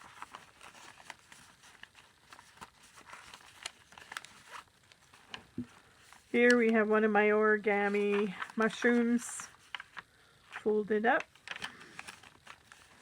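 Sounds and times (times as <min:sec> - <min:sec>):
paper rustling and crinkling: 0:00.0 - 0:06.8, 0:07.7 - 0:13.0.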